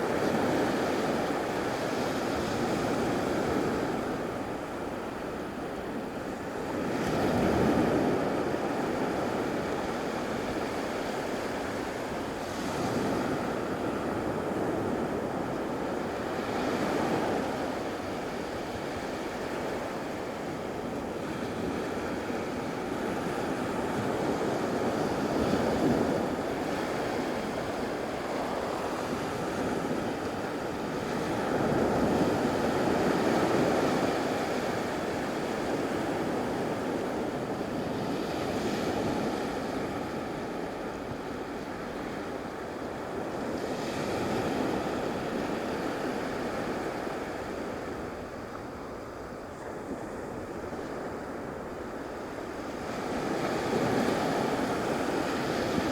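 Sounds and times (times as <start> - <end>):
wind on microphone: 0.0 - 55.9.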